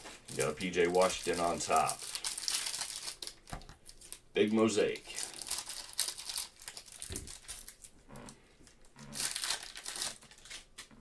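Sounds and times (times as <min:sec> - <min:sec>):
plastic wrapping crinkling: 0:00.0 - 0:10.9.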